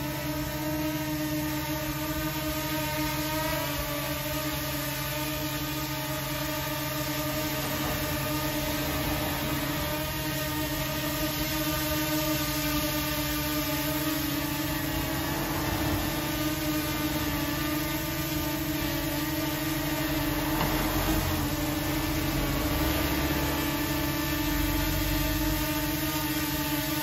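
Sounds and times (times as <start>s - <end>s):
drone propellers whirring: 0.0s - 27.0s.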